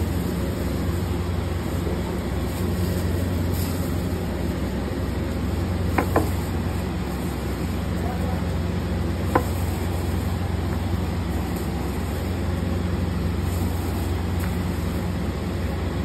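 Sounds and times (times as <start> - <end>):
kitchen equipment hum: 0.0 - 16.0.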